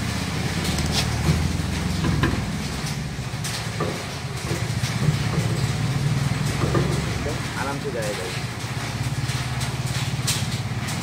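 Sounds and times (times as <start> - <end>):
engine idling rumble: 0.0 - 11.0.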